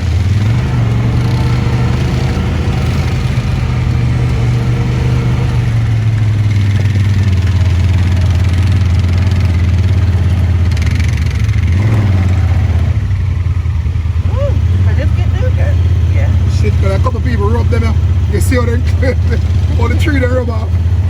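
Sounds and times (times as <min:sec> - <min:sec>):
atv engine droning: 0:00.0 - 0:21.0.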